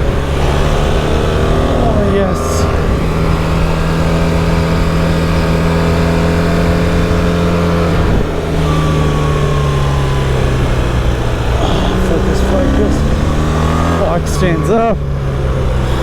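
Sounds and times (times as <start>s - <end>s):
wind noise: 0.0s - 14.4s
motorcycle engine running hard: 0.0s - 16.0s.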